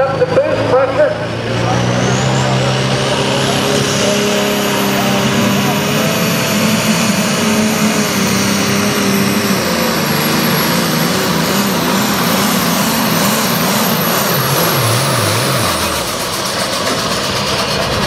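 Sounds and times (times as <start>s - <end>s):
tractor engine running flat out: 0.0s - 18.0s.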